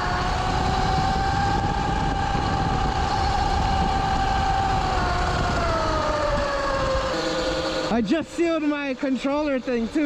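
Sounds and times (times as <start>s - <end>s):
electric motor whining: 0.0s - 10.0s
wind and tyre noise: 0.0s - 10.0s.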